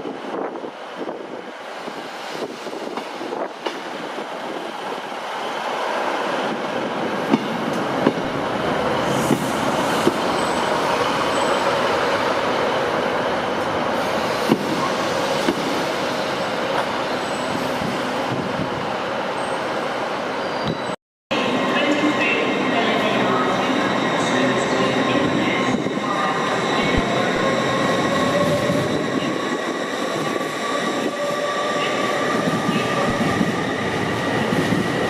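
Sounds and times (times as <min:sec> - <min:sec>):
train wheel and rail rumble: 0:00.0 - 0:35.0.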